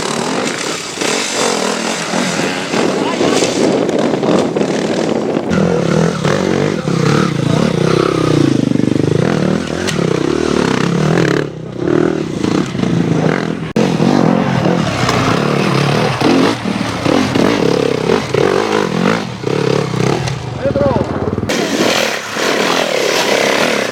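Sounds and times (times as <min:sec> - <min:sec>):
motorcycle engines revving: 0:00.0 - 0:23.9.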